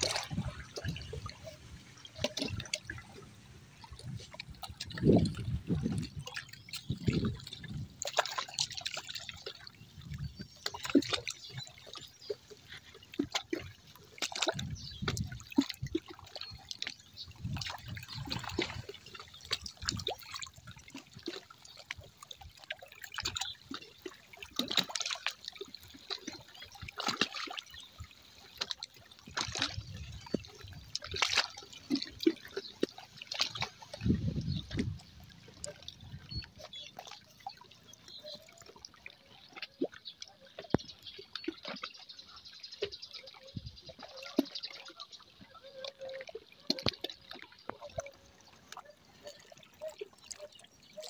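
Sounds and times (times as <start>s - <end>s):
small waves washing onto shore: 0.0s - 41.9s
splashing and trickling water: 0.0s - 51.0s.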